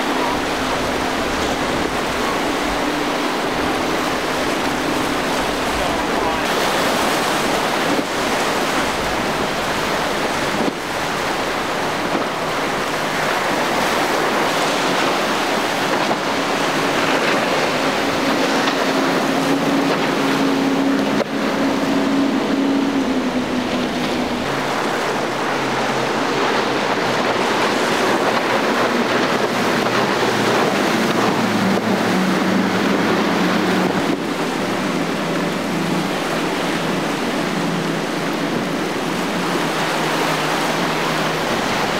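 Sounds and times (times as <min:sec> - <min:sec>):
boat engines humming: 0:00.0 - 0:41.9
waves and surf washing: 0:00.0 - 0:41.9
wind on microphone: 0:00.0 - 0:41.9.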